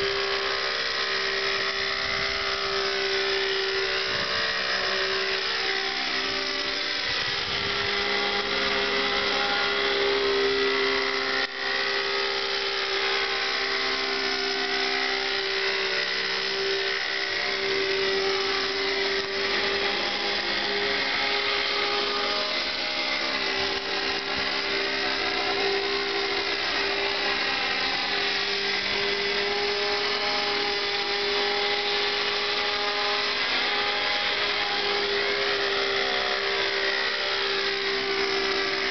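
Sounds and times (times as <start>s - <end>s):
model helicopter engine drone: 0.0s - 38.9s.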